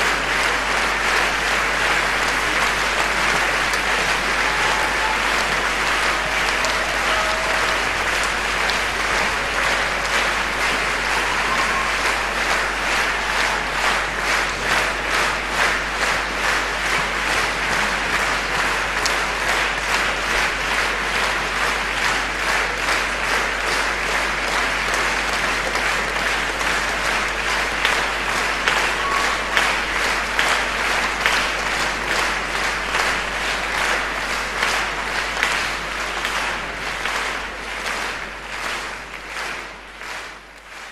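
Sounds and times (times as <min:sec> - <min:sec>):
audience clapping in unison: 0:00.0 - 0:40.9.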